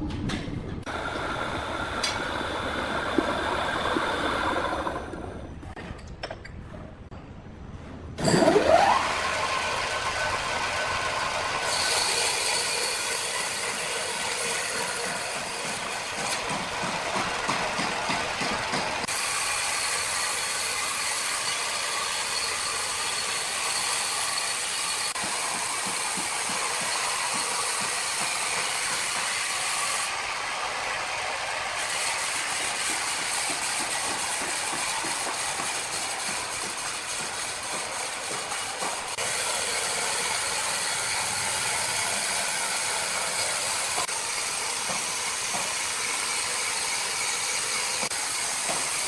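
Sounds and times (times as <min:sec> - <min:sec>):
sawmill machinery running: 0:00.8 - 0:05.8, 0:08.2 - 0:49.0.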